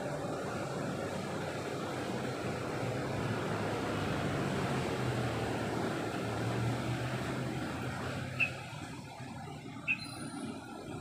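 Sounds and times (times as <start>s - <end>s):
passing vehicle rumble: 0.0s - 11.0s.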